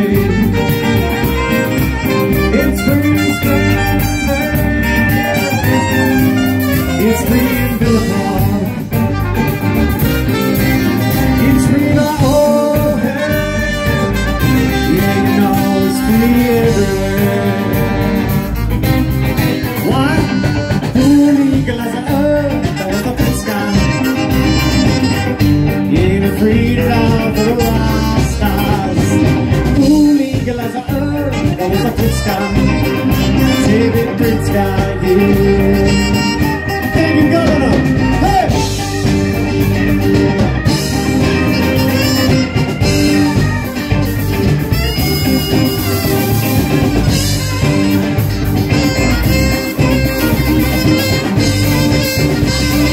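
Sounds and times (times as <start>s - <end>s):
acoustic guitar: 0.0s - 52.9s
bass guitar: 0.0s - 52.9s
electric guitars: 0.0s - 52.9s
keyboard: 0.0s - 52.9s.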